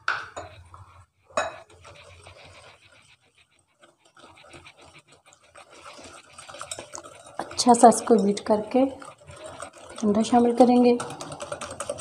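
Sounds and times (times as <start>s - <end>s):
wire whisk scraping in glass bowl: 0.4s - 12.0s.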